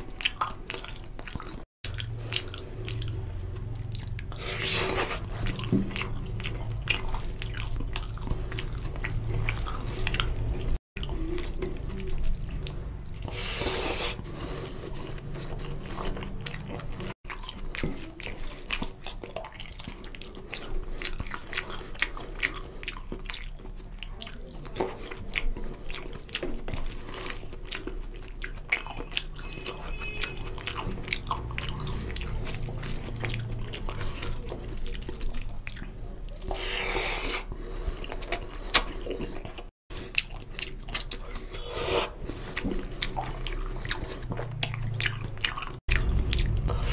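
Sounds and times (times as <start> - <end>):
wet chewing and mouth smacks: 0.0 - 46.9.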